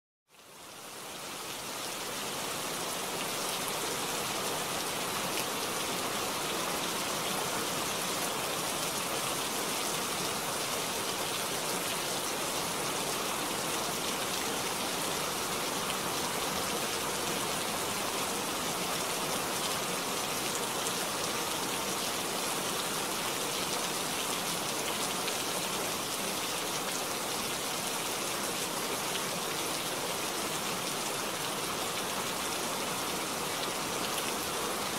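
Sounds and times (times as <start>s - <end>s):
steady rain falling: 0.3s - 34.9s.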